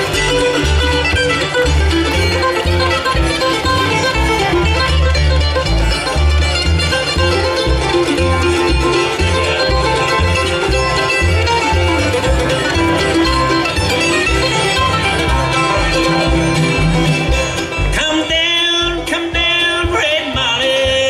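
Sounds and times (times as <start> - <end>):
banjo: 0.0 - 21.0
fiddle: 0.0 - 21.0
guitar: 0.0 - 21.0
upright bass: 0.0 - 21.0.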